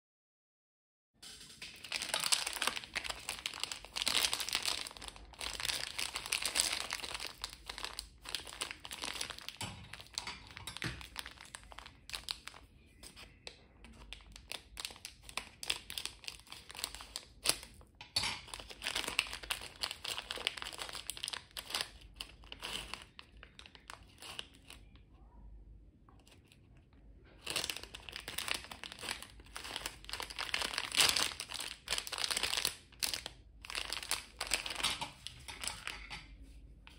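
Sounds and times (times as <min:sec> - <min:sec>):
plastic candy wrapper crinkling: 0:01.2 - 0:25.0, 0:26.1 - 0:36.3.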